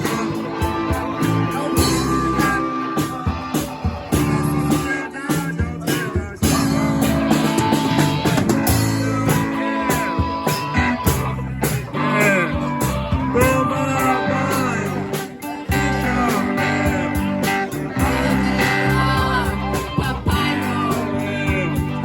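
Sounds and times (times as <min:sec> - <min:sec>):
lead guitar solo: 0:00.0 - 0:05.2, 0:06.5 - 0:22.0
rock band playing: 0:00.0 - 0:22.0.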